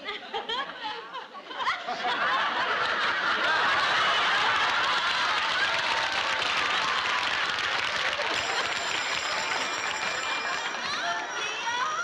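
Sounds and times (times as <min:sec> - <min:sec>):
audience laughing: 0:00.0 - 0:07.2, 0:07.8 - 0:11.3.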